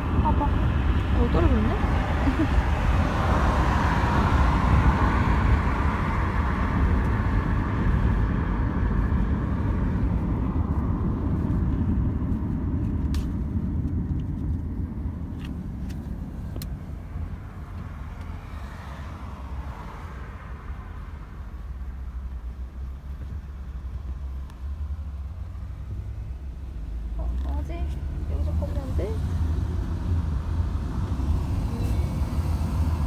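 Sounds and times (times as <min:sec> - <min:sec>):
low steady rumble: 0:00.0 - 0:18.5, 0:20.4 - 0:33.0.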